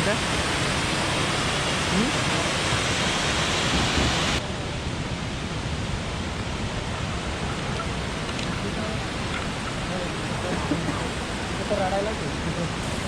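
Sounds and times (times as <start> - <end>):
waterfall rushing water: 0.0 - 13.0.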